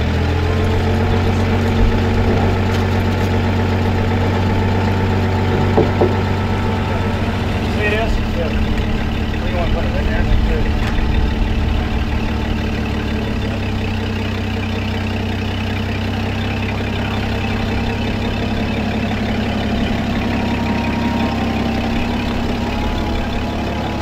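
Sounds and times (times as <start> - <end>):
forklift engine idling: 0.0 - 24.0.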